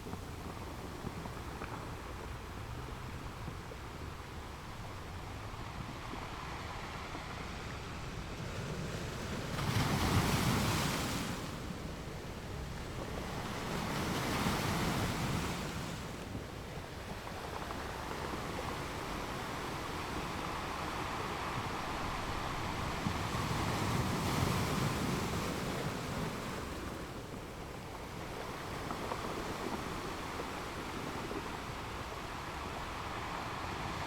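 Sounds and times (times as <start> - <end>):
ocean surf washing onto beach: 0.0 - 34.0.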